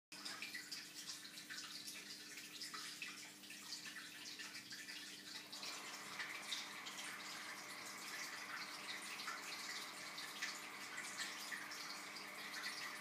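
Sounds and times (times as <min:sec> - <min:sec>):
water trickling and dripping: 0:00.1 - 0:13.0.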